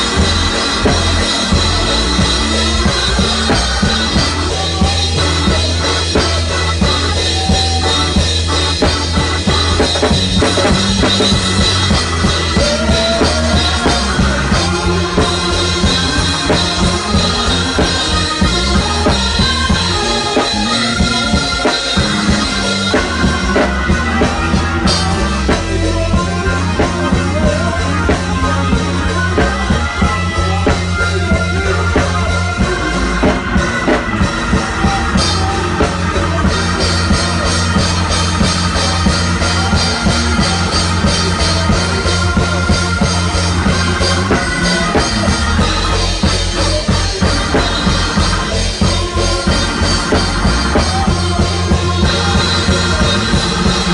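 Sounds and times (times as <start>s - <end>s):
church band music: 0.0s - 53.9s
drums and cymbals: 0.0s - 53.9s
sustained low notes: 0.0s - 53.9s.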